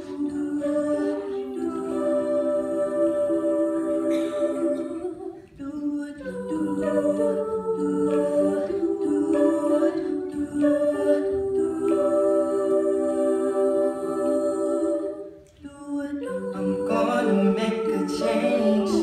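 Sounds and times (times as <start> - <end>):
choir singing harmony chords: 0.0 - 19.0.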